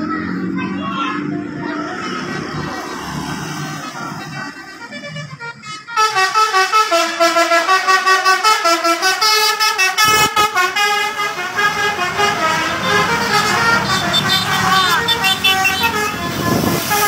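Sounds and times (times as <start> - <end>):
bus rumble: 0.0 - 17.0
multi-tone bus horn tune: 0.0 - 17.0.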